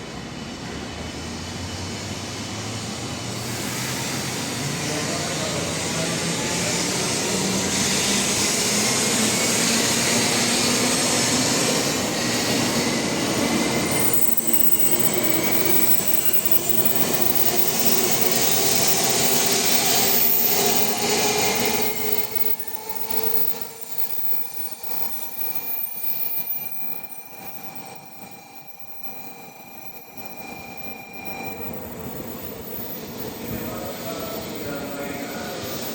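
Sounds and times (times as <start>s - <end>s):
high-speed train accelerating: 0.0s - 35.9s
traction motor whine rising: 1.5s - 35.9s.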